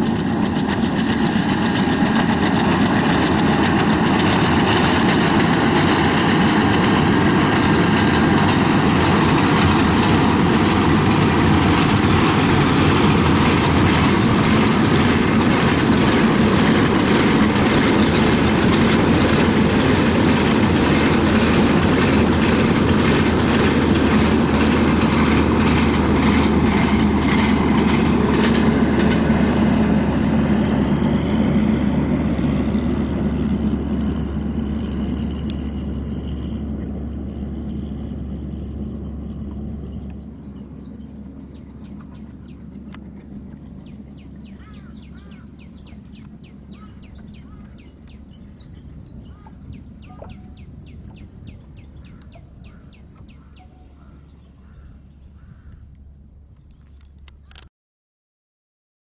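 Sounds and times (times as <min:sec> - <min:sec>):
low hum: 0:00.0 - 0:57.6
train wheel clatter: 0:00.0 - 0:57.7.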